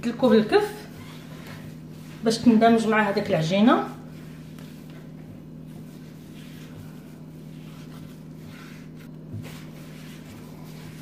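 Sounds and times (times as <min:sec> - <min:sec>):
hands kneading dough: 0:00.0 - 0:11.0
steady low hum: 0:00.0 - 0:11.0.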